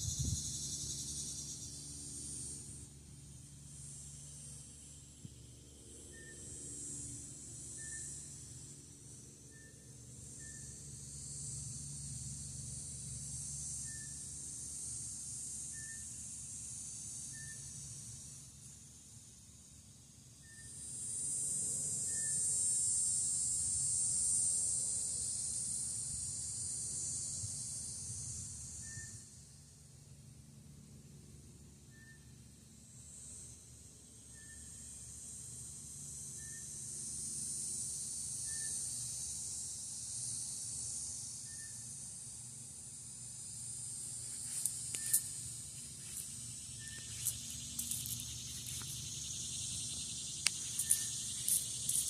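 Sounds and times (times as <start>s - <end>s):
insects calling in chorus: 0.0s - 18.8s, 20.4s - 29.6s, 34.1s - 52.0s.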